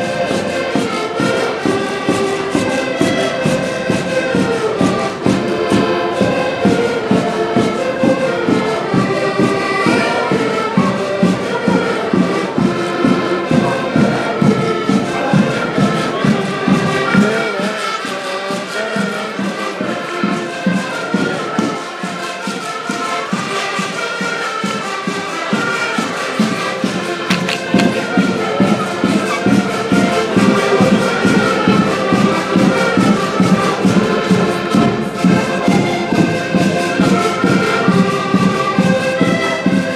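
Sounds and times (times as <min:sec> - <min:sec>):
reedy melody: 0:00.0 - 0:39.9
street band playing: 0:00.0 - 0:39.9.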